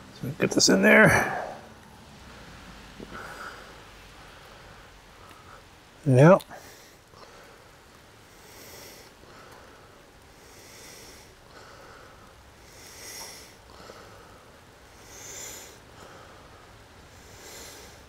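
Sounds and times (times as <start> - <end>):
man breathing through nose: 1.1 - 5.8, 6.5 - 18.0.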